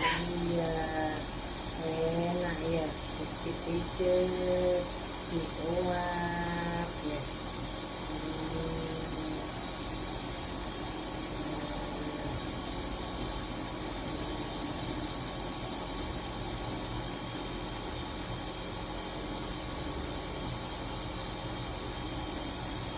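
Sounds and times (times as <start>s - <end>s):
nebulizer compressor hum: 0.0s - 22.9s.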